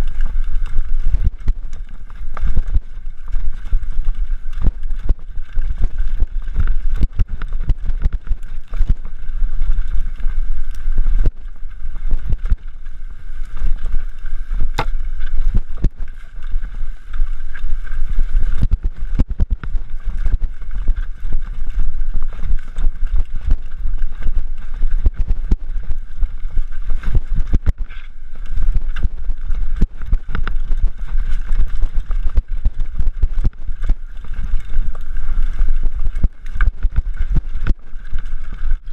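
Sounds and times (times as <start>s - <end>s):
mountain bike rattling: 0.0s - 38.9s.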